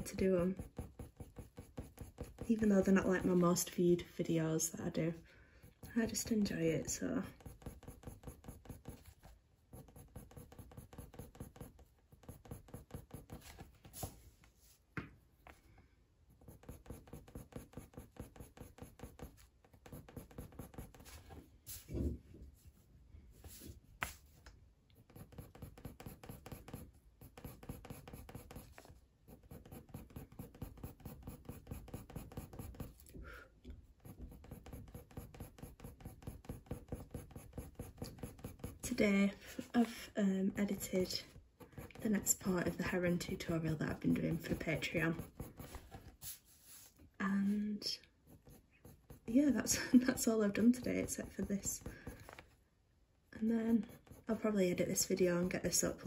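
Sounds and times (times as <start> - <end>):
coloured pencil scratching paper: 0.0 - 3.8, 5.6 - 14.1, 16.3 - 21.4, 25.0 - 33.1, 33.9 - 39.9, 40.6 - 52.5, 53.7 - 56.0.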